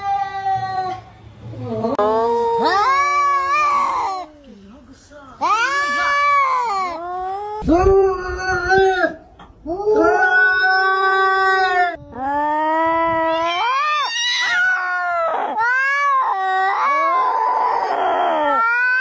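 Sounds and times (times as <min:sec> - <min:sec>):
cat yowling: 0:01.8 - 0:04.3, 0:05.4 - 0:19.0.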